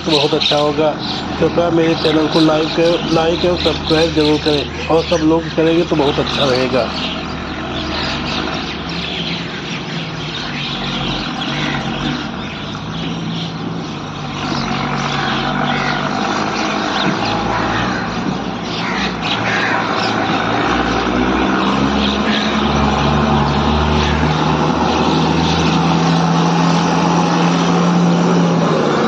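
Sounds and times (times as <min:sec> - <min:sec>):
birds chirping: 0:00.0 - 0:29.0
vehicle engine humming: 0:00.0 - 0:29.0.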